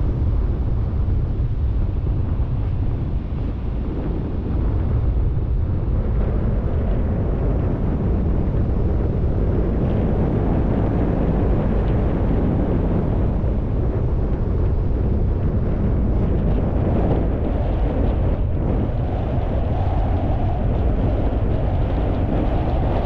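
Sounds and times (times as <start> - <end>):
road and wind noise: 0.0 - 23.0
wind buffeting microphone: 0.0 - 23.0.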